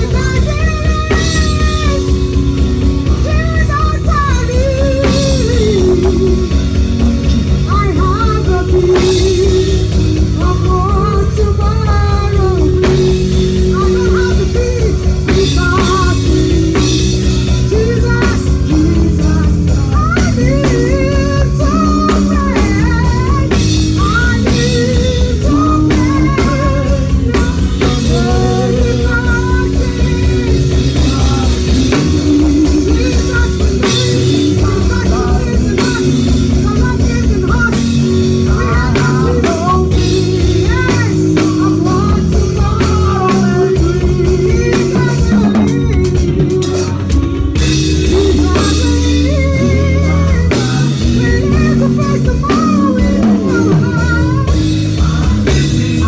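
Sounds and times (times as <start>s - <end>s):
band instruments: 0.0s - 56.0s
drum kit playing: 0.0s - 56.0s
people singing: 0.0s - 56.0s.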